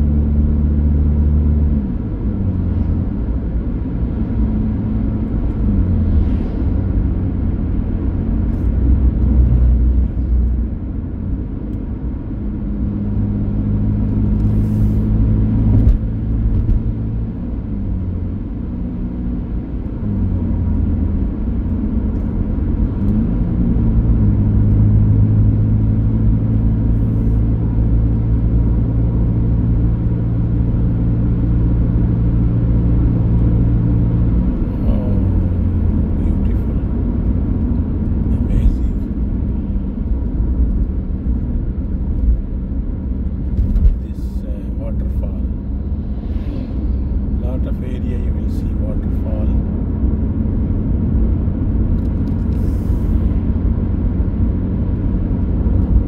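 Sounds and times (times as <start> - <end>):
car engine running: 0.0 - 56.0
road rumble: 0.0 - 56.0.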